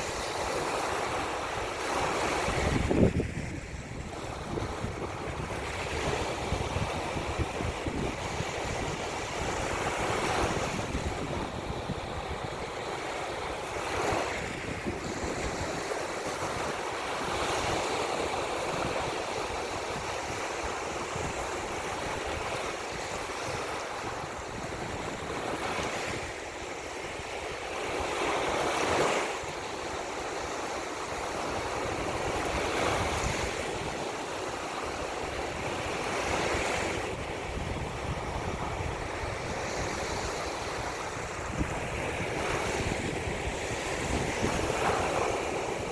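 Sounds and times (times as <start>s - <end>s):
wind blowing on microphone: 0.0s - 45.9s.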